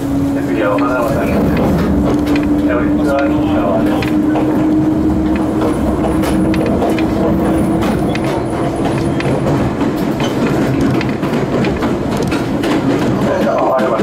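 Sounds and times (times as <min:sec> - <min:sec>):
train rolling noise: 0:00.0 - 0:14.0
wheel clicks over rail joints: 0:00.6 - 0:14.0.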